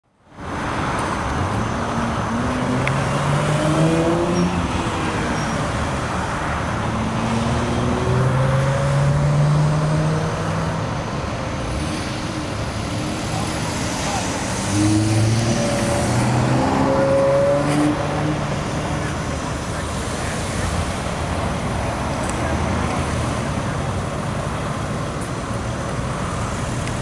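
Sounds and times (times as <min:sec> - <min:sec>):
cars passing by: 0:00.2 - 0:27.0
vehicle engines running: 0:00.7 - 0:27.0.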